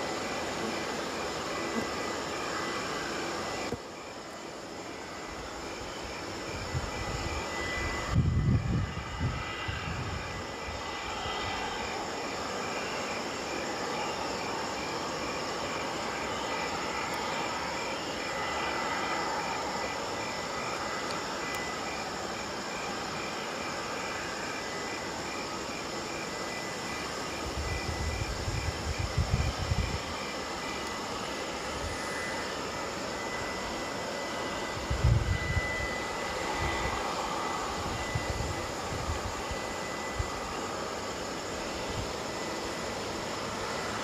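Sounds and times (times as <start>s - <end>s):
jet engine whine: 0.0s - 44.0s.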